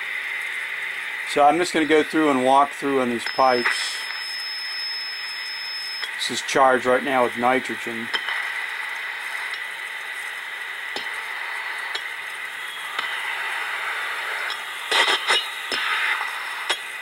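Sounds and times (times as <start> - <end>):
hissing crackling detector audio: 0.0 - 17.0.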